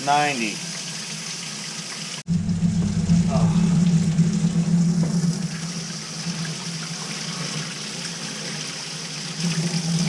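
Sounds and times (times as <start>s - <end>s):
water running from a tap: 0.0s - 2.3s, 3.3s - 10.0s.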